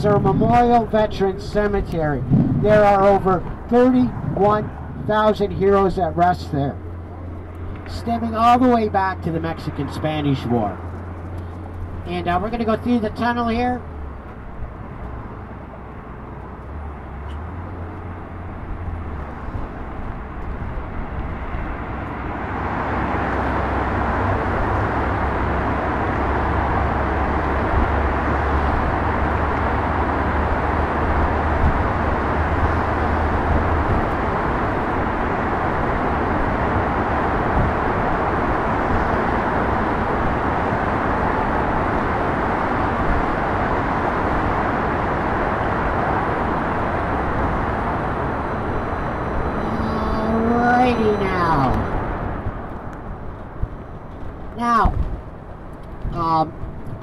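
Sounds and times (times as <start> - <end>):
bus engine hum: 0.0 - 57.0
road and wind noise: 0.0 - 57.0.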